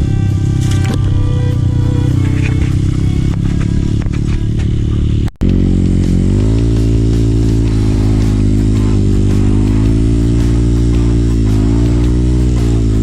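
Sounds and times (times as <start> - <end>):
motorcycle engine running under load: 0.0 - 13.0.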